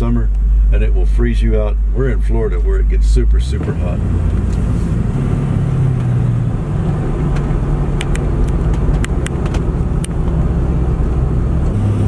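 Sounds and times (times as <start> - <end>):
truck engine running: 0.0 - 11.9
road noise: 0.0 - 12.0.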